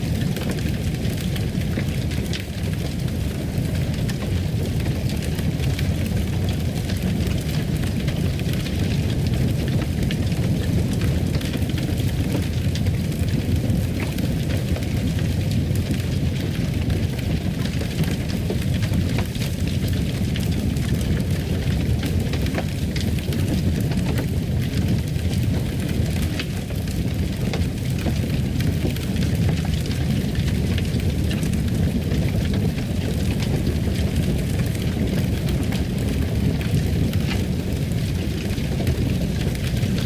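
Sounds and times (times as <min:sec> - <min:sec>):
fireplace fire burning: 0:00.0 - 0:40.0.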